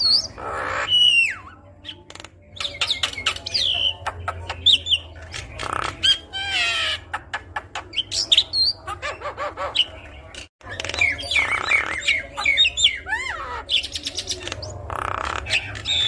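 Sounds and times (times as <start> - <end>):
harsh rasping bird chatter: 0.0 - 16.0.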